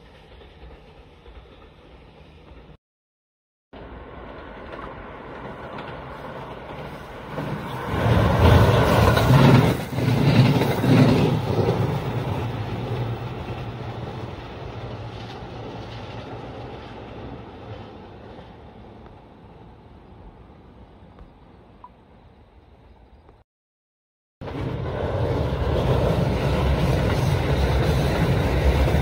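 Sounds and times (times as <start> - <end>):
train passing by: 0.0 - 2.8, 3.8 - 23.1, 24.4 - 29.0.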